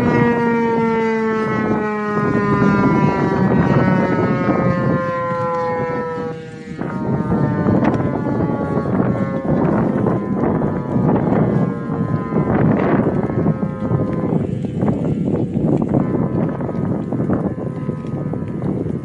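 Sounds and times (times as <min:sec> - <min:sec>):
warning siren wailing: 0:00.0 - 0:19.0
wind rumbling on microphone: 0:00.0 - 0:19.0.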